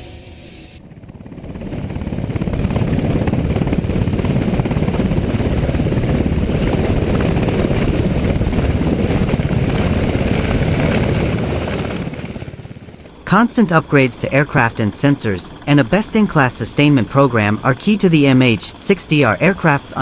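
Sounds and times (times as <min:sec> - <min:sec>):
helicopter rotor chopping: 0:00.8 - 0:20.0.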